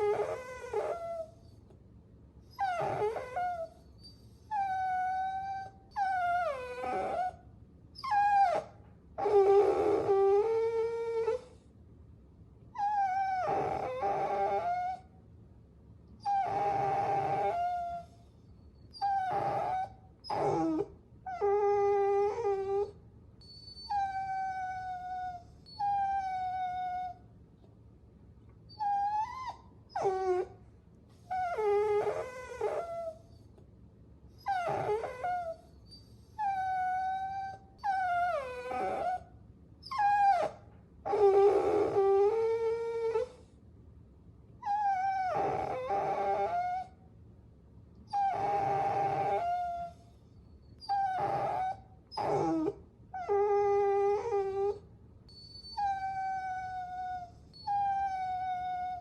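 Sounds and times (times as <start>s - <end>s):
puppies whining: 0.0s - 1.6s, 2.5s - 7.4s, 8.0s - 11.6s, 12.8s - 15.1s, 16.2s - 27.2s, 28.7s - 30.6s, 31.2s - 33.6s, 34.4s - 43.5s, 44.6s - 47.0s, 48.1s - 59.0s.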